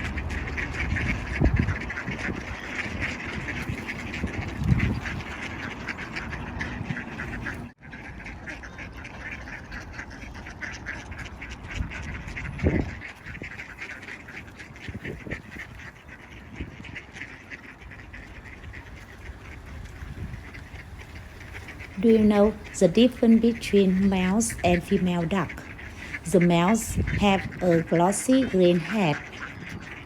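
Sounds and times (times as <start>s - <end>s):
ducks quacking: 0.0s - 30.0s.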